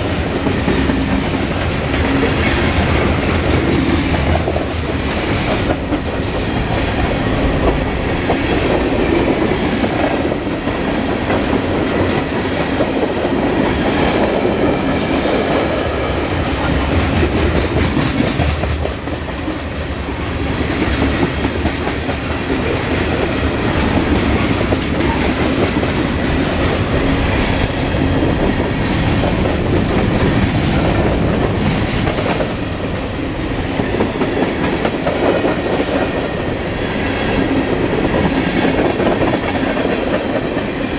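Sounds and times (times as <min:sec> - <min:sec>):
clickety-clack over rail joints: 0:00.0 - 0:40.9
freight train rolling past: 0:00.0 - 0:40.9.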